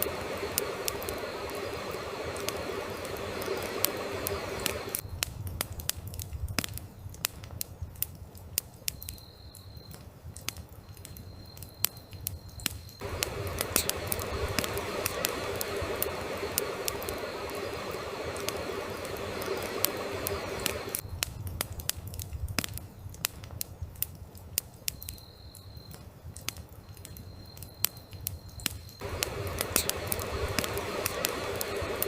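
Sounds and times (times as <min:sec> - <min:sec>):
crickets droning: 0:00.0 - 0:05.5, 0:08.2 - 0:32.0
background hiss: 0:00.0 - 0:32.0
wood fire crackling and popping: 0:00.0 - 0:32.0.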